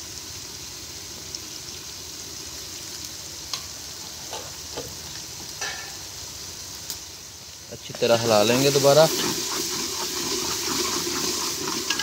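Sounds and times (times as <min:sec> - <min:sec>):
masala sizzling in a pot: 0:00.0 - 0:12.0.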